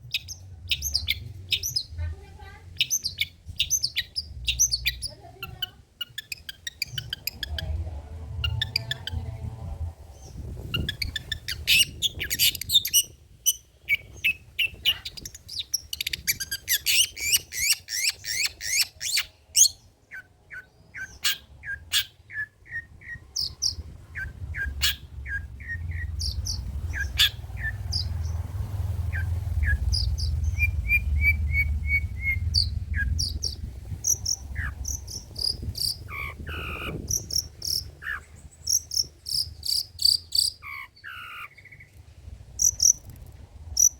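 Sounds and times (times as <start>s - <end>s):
low rumble: 0.0s - 5.1s, 6.8s - 17.2s, 19.3s - 39.7s, 41.6s - 43.9s
bird singing chattering song: 0.0s - 9.4s, 10.0s - 42.0s, 42.6s - 43.2s.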